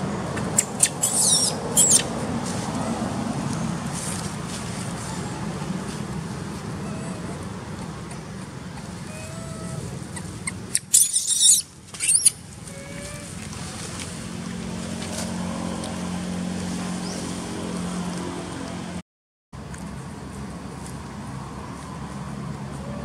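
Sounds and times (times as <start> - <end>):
low engine hum: 0.0 - 11.0, 11.6 - 19.0, 19.6 - 23.0.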